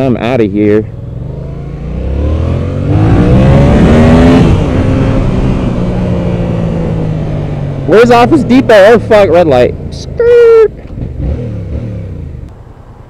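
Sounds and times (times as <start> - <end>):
motorcycle engine revving: 0.8 - 12.5.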